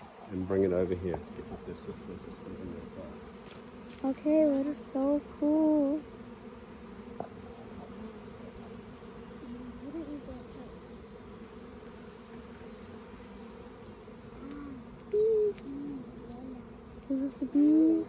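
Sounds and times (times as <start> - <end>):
bee swarm buzzing: 0.0 - 18.0
single bees buzzing past: 0.0 - 18.0.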